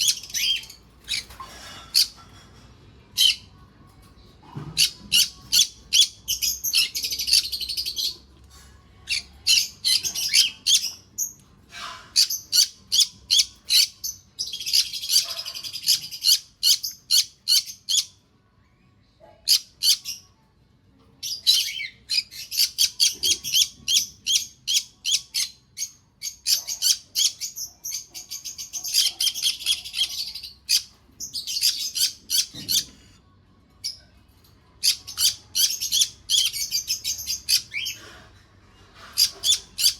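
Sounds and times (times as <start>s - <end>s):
parrots chirping: 0.0s - 2.6s, 3.2s - 3.5s, 4.6s - 8.2s, 9.1s - 18.2s, 19.4s - 20.2s, 21.2s - 33.2s, 34.8s - 38.2s, 39.0s - 39.9s.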